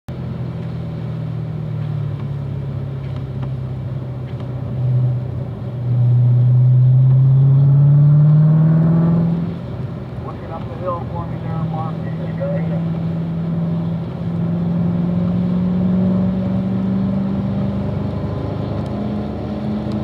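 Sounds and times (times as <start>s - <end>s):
car engine accelerating: 0.1s - 20.0s.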